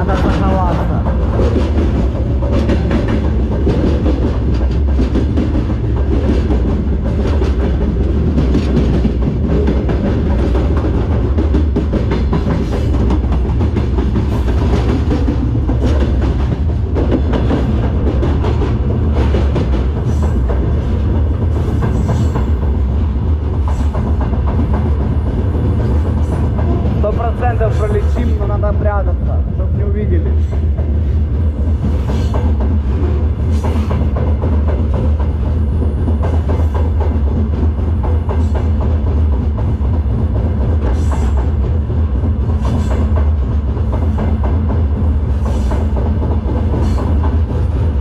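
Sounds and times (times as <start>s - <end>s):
steel wheels rumbling on rail: 0.0s - 48.0s.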